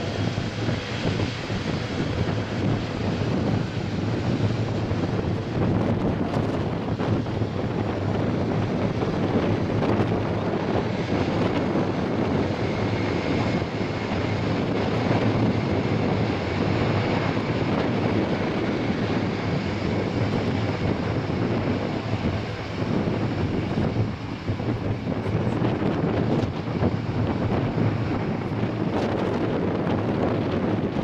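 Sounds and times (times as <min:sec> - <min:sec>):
propeller drone: 0:00.0 - 0:31.0.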